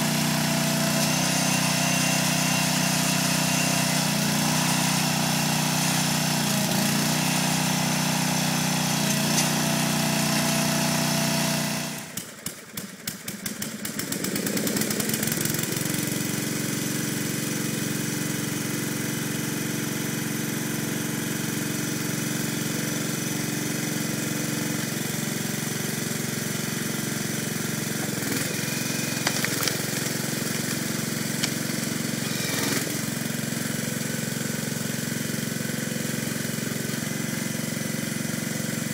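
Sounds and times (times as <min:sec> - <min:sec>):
small gas engine running: 0:00.0 - 0:38.9.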